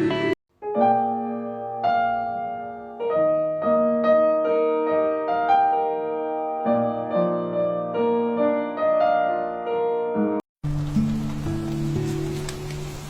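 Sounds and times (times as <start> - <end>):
soft slow piano music: 0.0 - 13.0.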